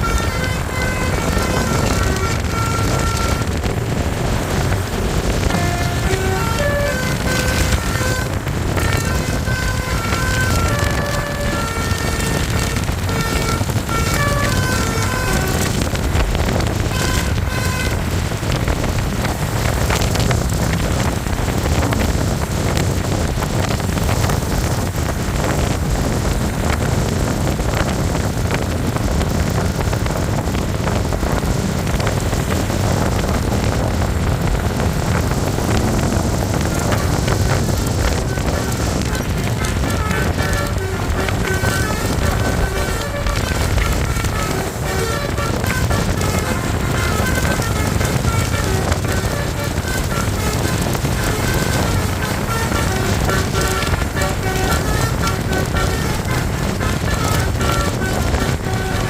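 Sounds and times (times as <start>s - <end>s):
multi-tone bus horn tune: 0.0s - 59.0s
vehicle and road noise: 0.0s - 59.0s.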